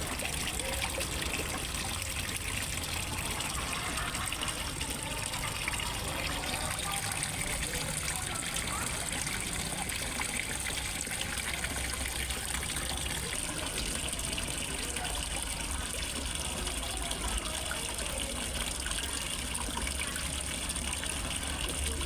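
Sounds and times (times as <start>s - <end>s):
waterfall splashing into pond: 0.0s - 22.0s.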